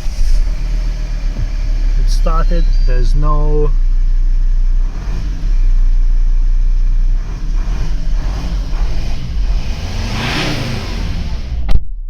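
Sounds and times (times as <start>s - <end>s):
diesel engine revving: 0.0s - 11.8s.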